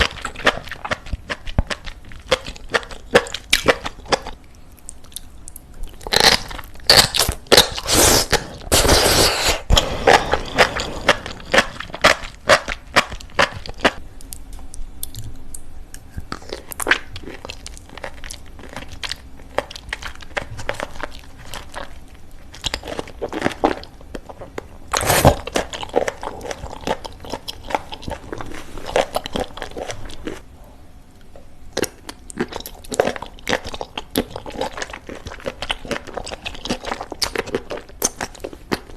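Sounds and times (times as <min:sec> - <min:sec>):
crunchy chewing: 0:00.0 - 0:30.4, 0:31.7 - 0:38.9.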